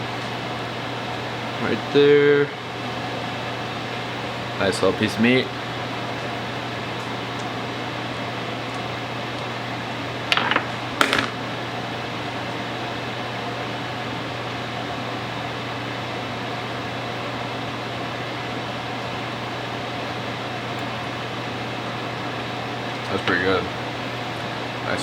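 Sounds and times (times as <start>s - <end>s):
steady electric hum: 0.0s - 25.0s.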